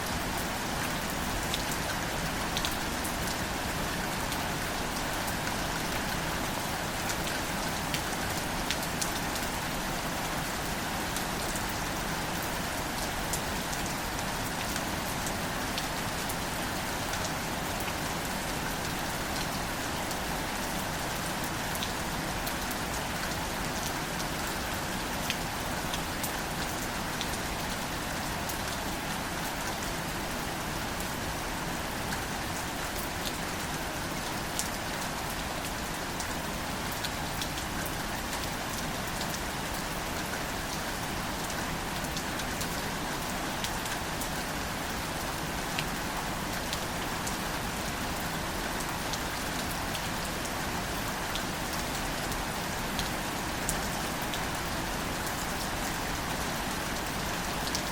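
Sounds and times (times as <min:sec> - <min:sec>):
rain hissing on foliage: 0:00.0 - 0:57.9.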